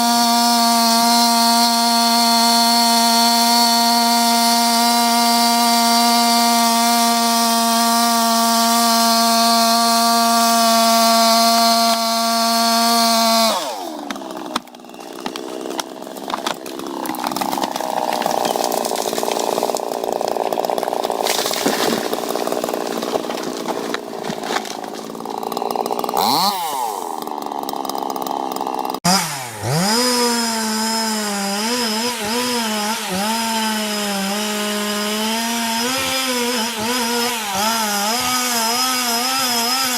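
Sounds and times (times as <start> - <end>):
chainsaw cutting: 0.0 - 39.9
chainsaw engine whining: 0.0 - 39.9.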